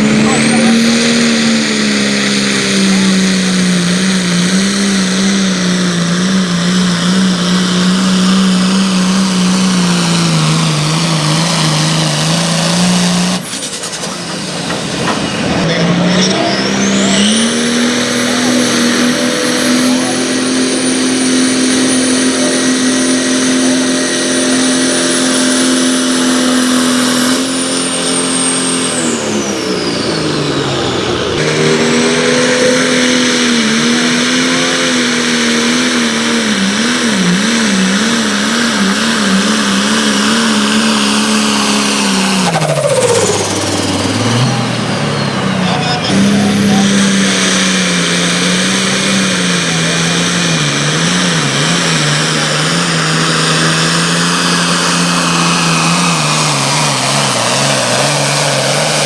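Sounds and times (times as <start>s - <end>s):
engine running under heavy load: 0.0s - 59.0s.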